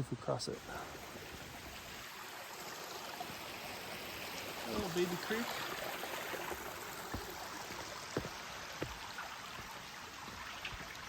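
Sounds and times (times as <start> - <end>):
creek flowing: 0.3 - 11.0.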